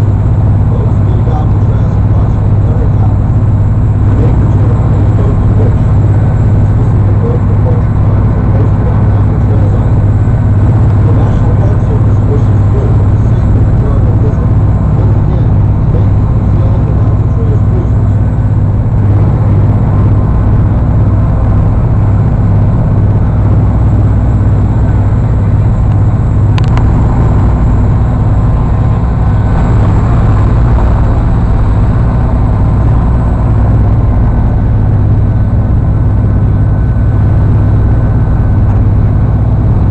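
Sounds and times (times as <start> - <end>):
ferry engines droning: 0.0 - 39.9
wind: 0.0 - 39.9.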